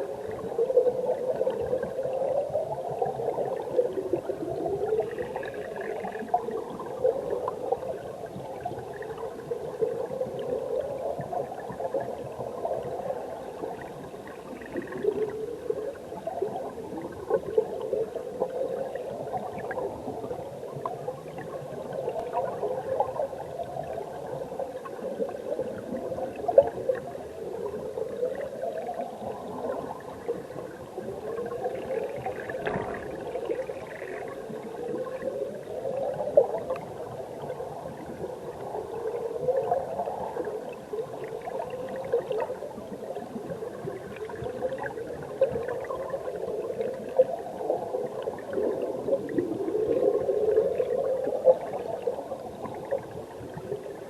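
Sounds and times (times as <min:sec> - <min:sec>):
underwater stream bubbling rush: 0:00.0 - 0:54.0.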